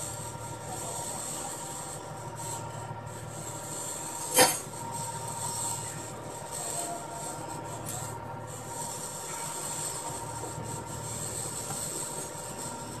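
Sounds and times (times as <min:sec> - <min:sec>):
construction site hum: 0:00.0 - 0:13.0.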